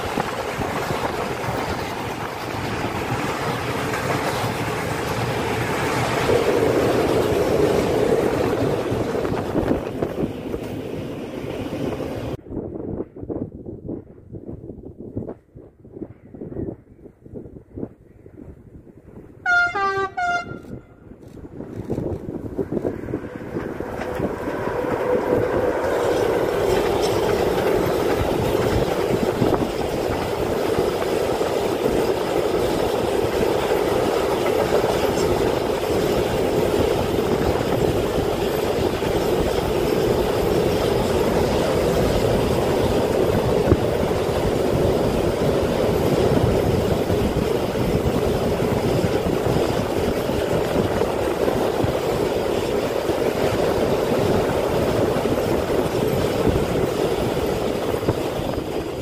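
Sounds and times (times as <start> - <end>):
freight train wheels rumbling: 0.0 - 16.8, 17.6 - 59.0.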